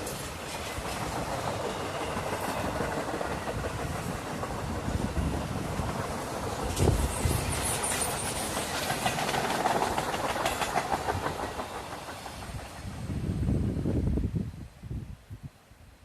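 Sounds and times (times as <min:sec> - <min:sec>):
train wheels clacking on rail joints: 0:00.0 - 0:13.0
low train rumble: 0:00.0 - 0:15.1.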